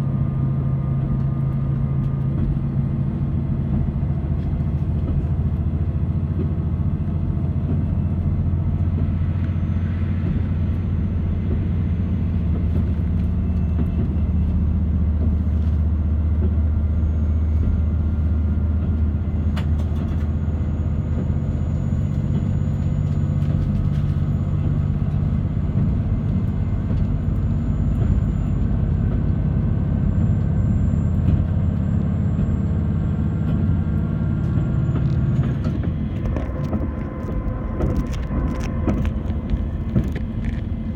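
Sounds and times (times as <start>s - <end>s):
railcar engine and wheels rumbling: 0.0s - 40.9s.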